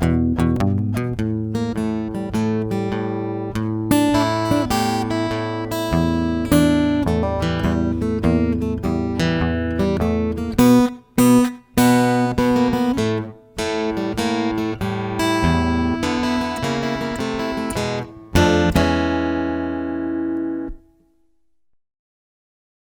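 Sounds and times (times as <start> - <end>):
acoustic guitar playing: 0.0 - 21.2.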